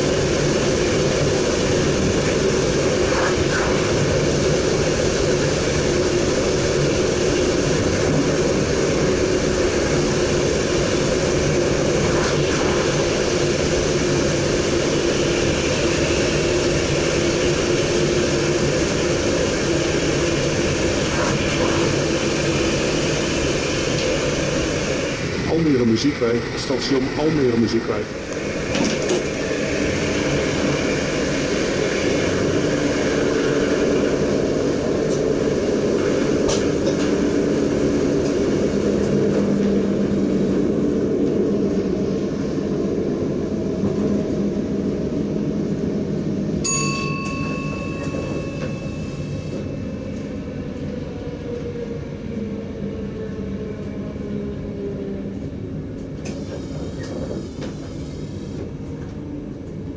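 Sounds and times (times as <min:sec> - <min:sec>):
electric train rumbling on rails: 0:00.0 - 0:59.9.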